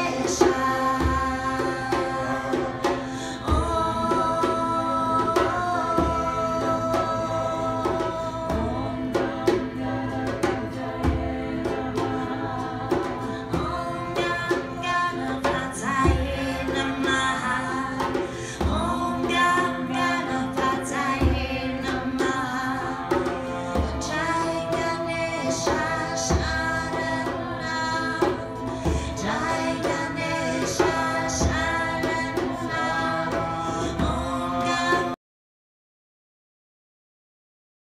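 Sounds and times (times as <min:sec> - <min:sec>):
harmonium drone: 0:00.0 - 0:35.1
people singing chant: 0:00.0 - 0:35.2.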